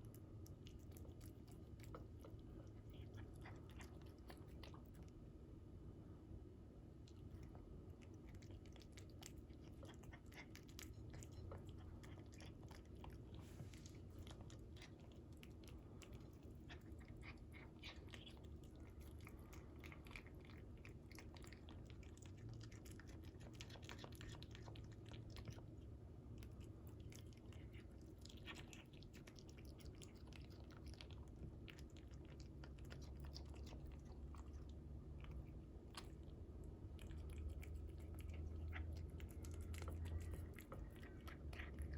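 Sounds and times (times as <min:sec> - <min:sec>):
cat chewing wetly: 0:00.0 - 0:41.9.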